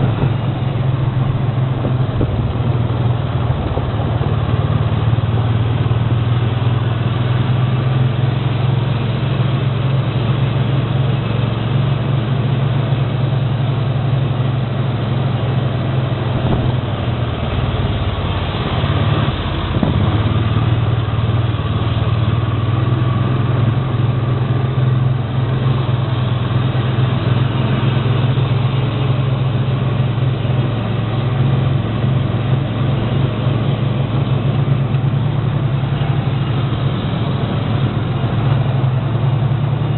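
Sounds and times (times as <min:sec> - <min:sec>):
low mechanical engine drone: 0:00.0 - 0:39.9.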